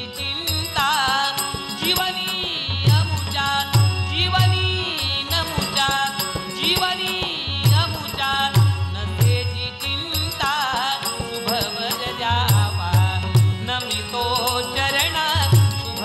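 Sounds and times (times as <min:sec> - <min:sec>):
hand cymbals ringing: 0:00.0 - 0:16.0
harmonium melody: 0:00.0 - 0:16.0.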